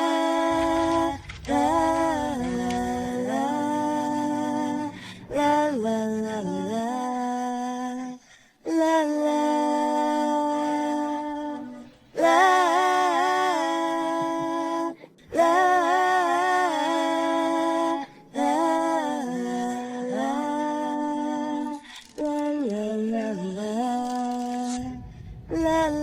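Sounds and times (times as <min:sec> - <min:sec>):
wordless female vocal harmonies: 0:00.0 - 0:26.0.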